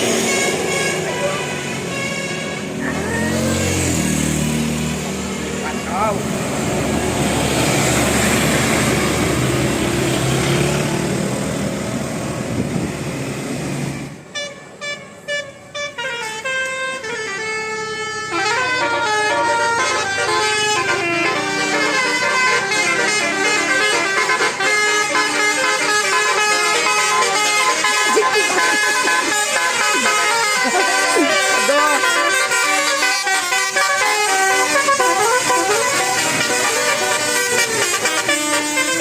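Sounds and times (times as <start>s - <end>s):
multi-tone bus horn melody: 0.0s - 12.9s, 13.8s - 39.0s
vehicle engine and road noise: 0.0s - 39.0s.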